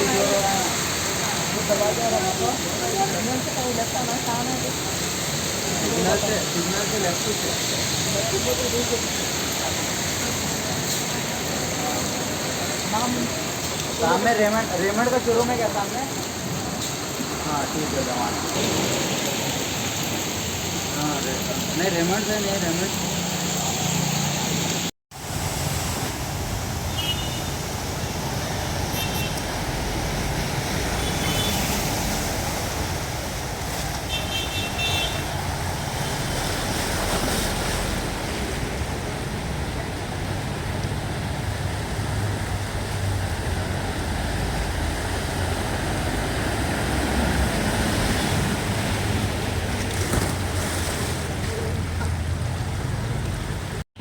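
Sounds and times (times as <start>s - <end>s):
traffic on wet road: 0.0s - 54.0s.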